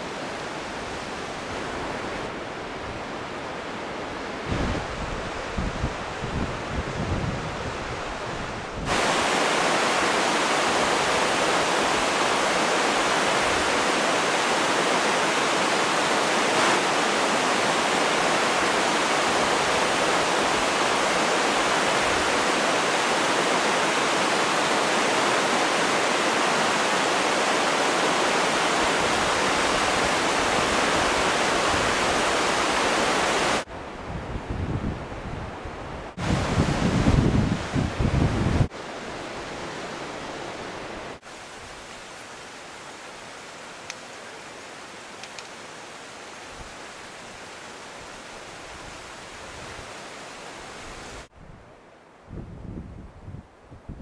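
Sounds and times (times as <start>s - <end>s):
stream rushing over rocks: 0.0s - 33.7s, 36.0s - 51.3s.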